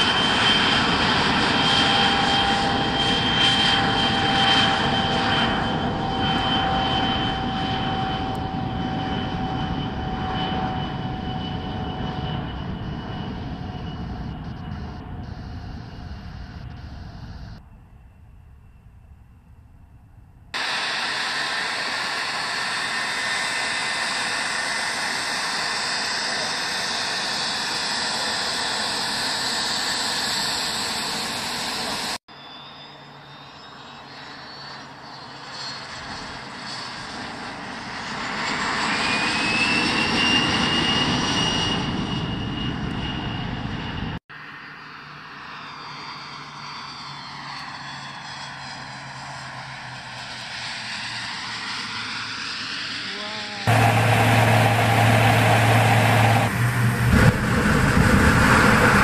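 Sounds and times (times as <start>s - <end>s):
aircraft jet engines: 0.0s - 59.0s
rising engine whine: 0.0s - 59.0s.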